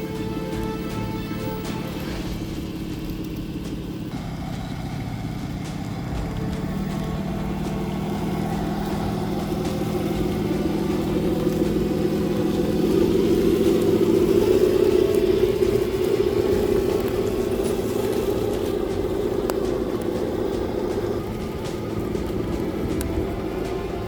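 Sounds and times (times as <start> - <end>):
toy car electric motor whining: 1.8 - 24.0.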